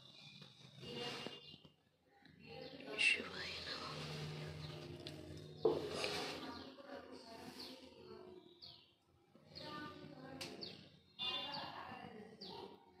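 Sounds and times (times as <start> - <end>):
small birds chirping: 0.0 - 13.0
faint voices talking: 0.8 - 13.0.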